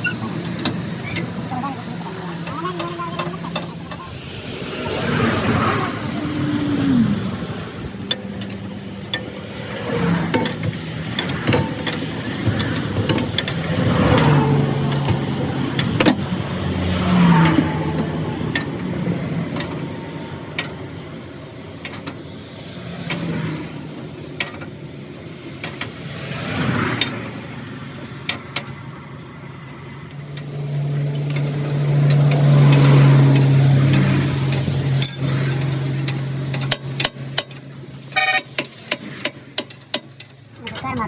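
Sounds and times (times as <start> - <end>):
low engine hum: 0.0 - 41.0
vehicles passing by: 0.0 - 41.0.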